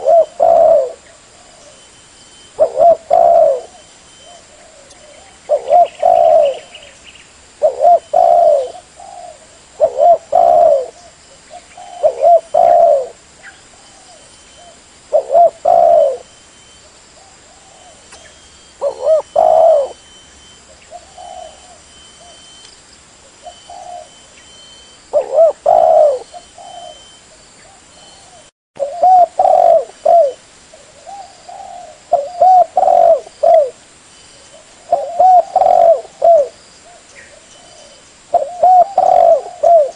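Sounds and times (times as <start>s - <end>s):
dove cooing: 0.0s - 7.0s, 7.6s - 22.6s, 23.3s - 33.8s, 34.4s - 39.9s.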